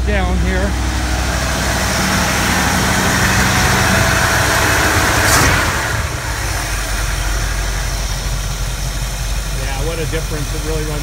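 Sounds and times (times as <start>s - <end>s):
truck engine fast idling: 0.0s - 11.0s.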